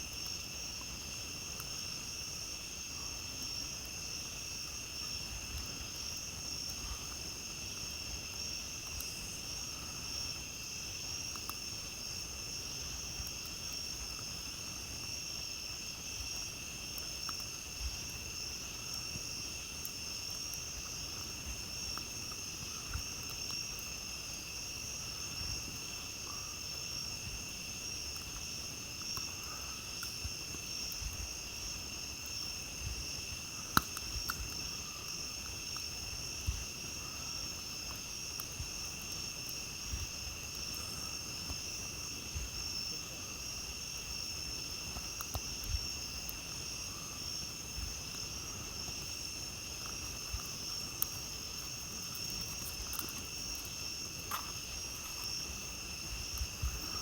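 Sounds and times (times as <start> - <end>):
campfire crackling: 0.0 - 57.0
night insects chirping: 0.0 - 57.0.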